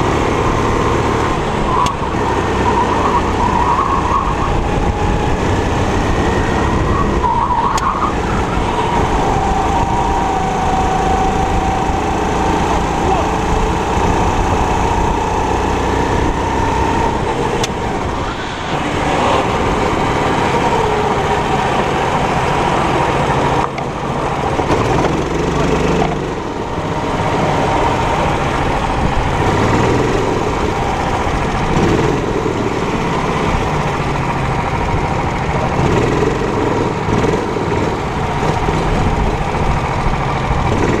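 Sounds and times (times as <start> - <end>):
kart engine running under load: 0.0 - 41.0.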